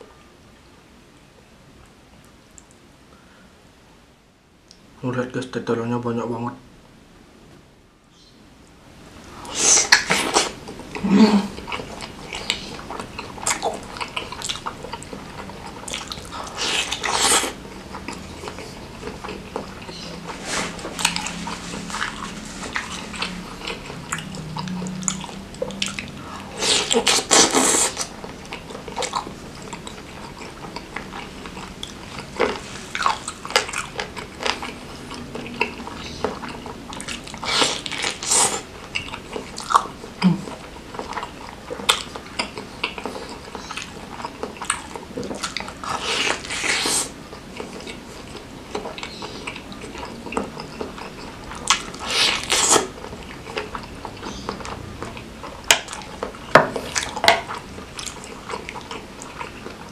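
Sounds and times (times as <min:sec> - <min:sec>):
close chewing and biting: 0:09.3 - 0:59.9.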